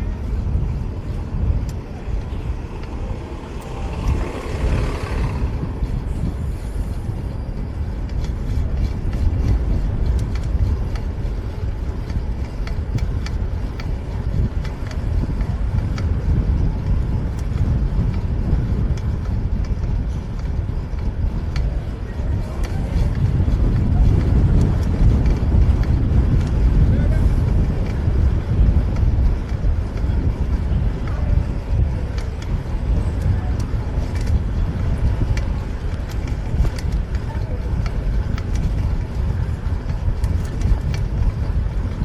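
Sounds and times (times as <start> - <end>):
city street traffic rumble: 0.0 - 42.0
wind over microphone: 0.0 - 42.0.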